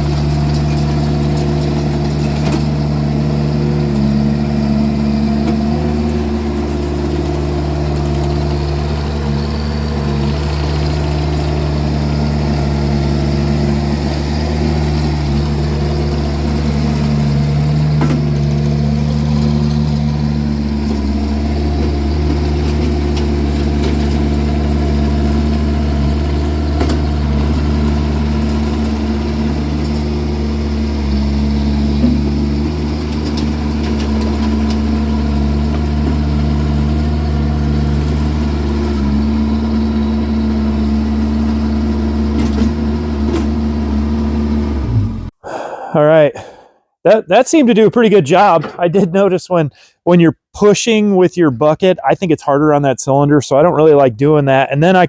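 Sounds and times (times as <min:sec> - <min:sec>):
skid steer engine running: 0:00.0 - 0:45.9.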